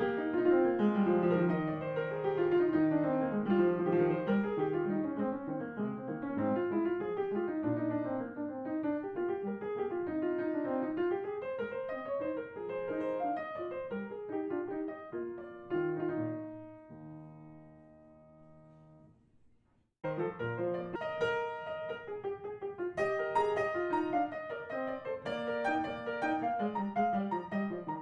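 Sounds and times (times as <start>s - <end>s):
piano music: 0.0s - 19.1s, 20.0s - 28.0s.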